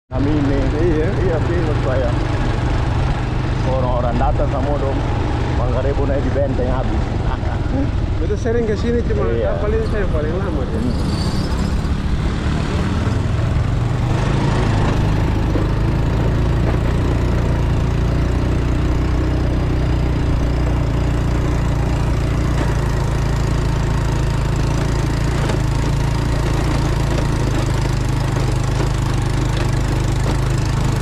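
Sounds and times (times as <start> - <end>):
motorbike engine running: 0.1 - 9.4, 11.4 - 31.0.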